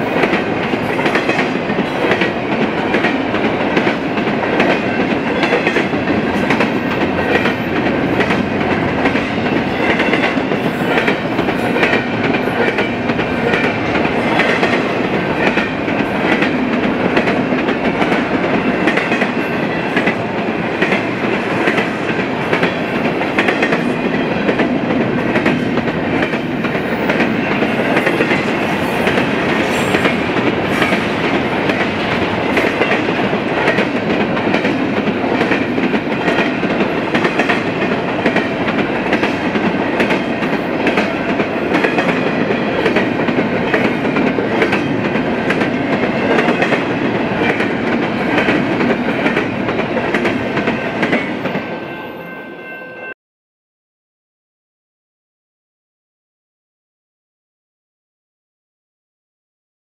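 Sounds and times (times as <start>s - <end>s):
freight train rumbling past: 0.0s - 52.4s.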